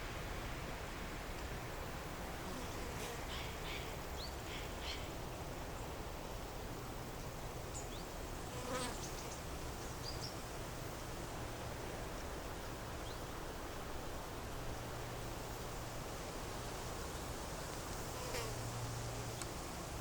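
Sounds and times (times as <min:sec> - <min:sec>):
soft outdoor hiss: 0:00.0 - 0:20.0.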